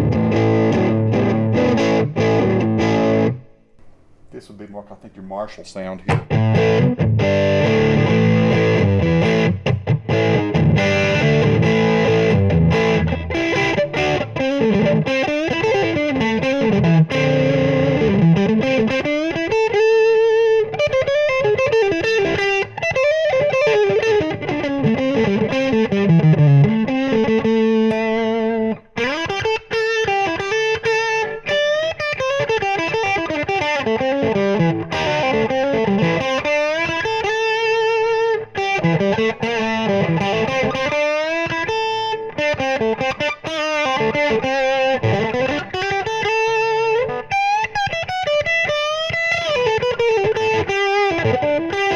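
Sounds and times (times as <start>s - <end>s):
distorted electric guitar: 0.0s - 4.3s, 6.1s - 51.9s.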